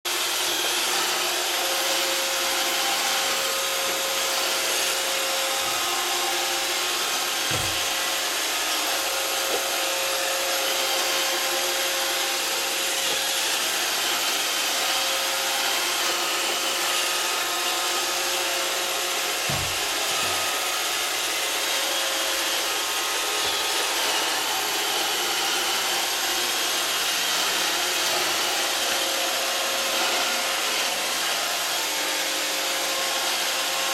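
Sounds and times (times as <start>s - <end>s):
robot vacuum whirring: 0.1s - 33.9s.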